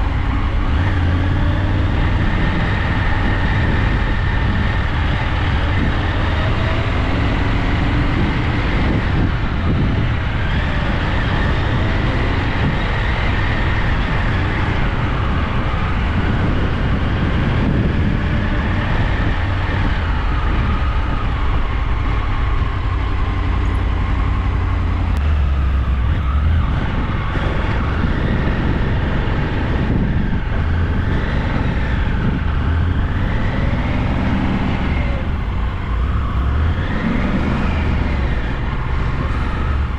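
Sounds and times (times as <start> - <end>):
vehicle low rumble: 0.0 - 39.9.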